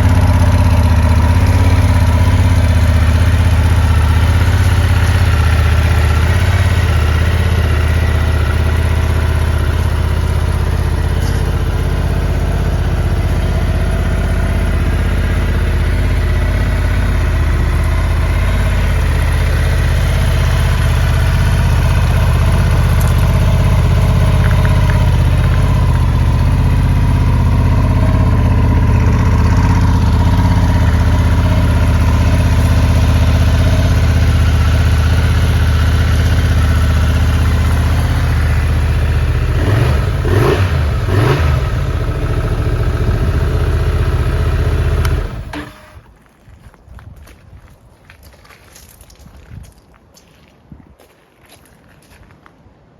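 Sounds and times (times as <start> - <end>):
motorcycle engine idling: 0.0 - 46.1.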